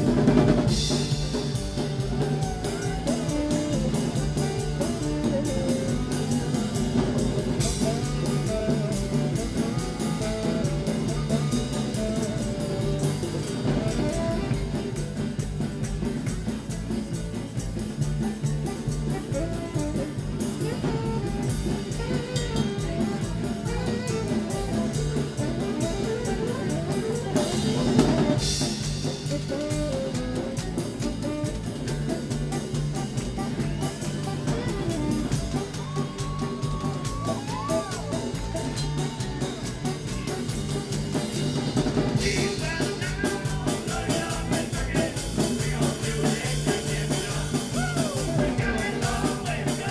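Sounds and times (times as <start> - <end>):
saxophone and horns: 0.0 - 15.8, 18.2 - 49.9
drum kit: 0.0 - 49.9.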